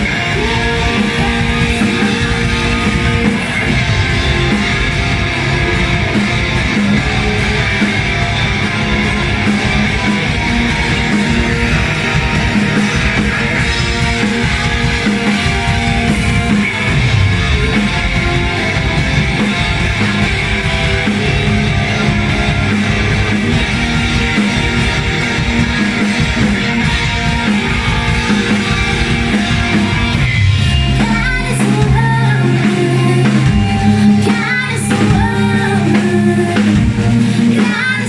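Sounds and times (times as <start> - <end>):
electric guitar: 0.0 - 38.0
live rock band playing: 0.0 - 38.0.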